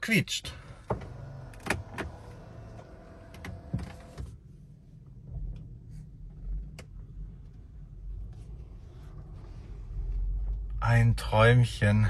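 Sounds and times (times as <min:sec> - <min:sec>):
low road rumble: 0:00.4 - 0:12.0.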